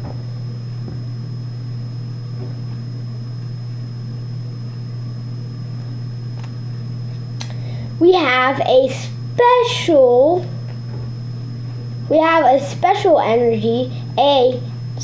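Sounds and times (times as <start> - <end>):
faint high whine: 0.0 - 15.0
steady low hum: 0.0 - 15.0.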